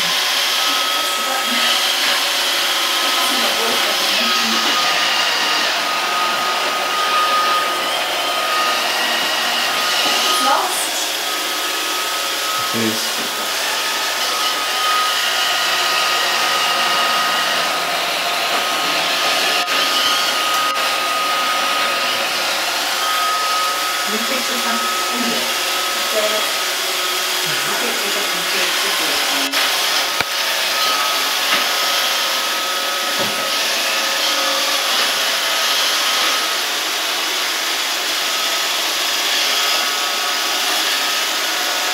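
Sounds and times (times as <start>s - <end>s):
robot vacuum whirring: 0.0s - 41.9s.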